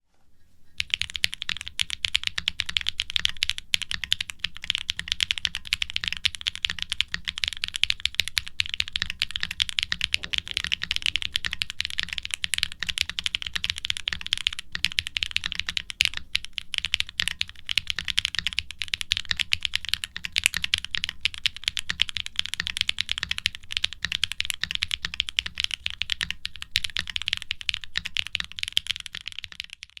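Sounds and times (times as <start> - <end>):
mechanical keyboard typing: 0.8 - 30.0.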